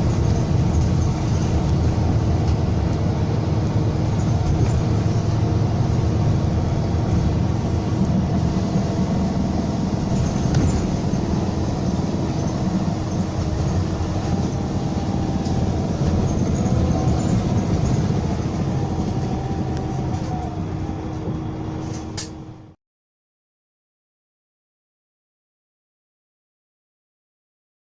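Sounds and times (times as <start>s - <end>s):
coach diesel engine running: 0.0s - 22.8s
road rumble: 0.0s - 22.8s.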